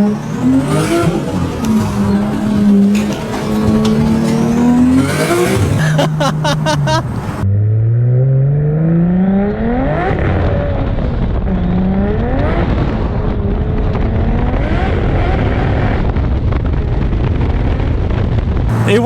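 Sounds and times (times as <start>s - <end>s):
car engine accelerating hard: 0.0s - 17.2s, 18.7s - 19.0s.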